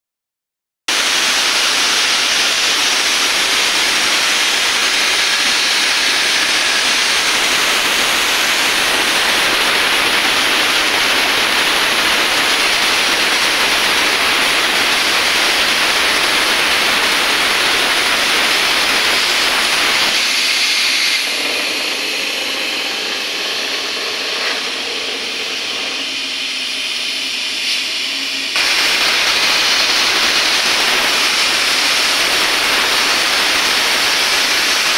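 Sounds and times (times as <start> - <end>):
plasma torch hissing: 0.9 - 34.9.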